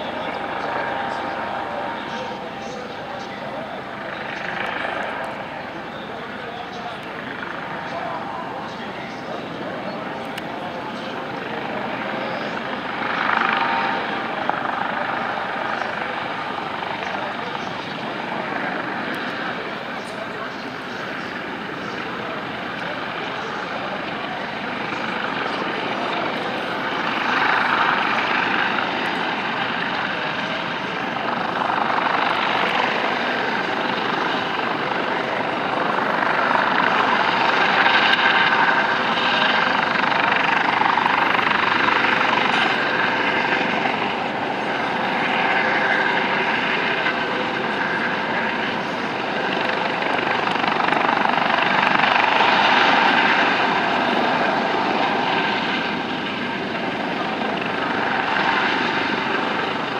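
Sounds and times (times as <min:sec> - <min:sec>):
helicopter rotor and turbine noise: 0:00.0 - 0:59.9.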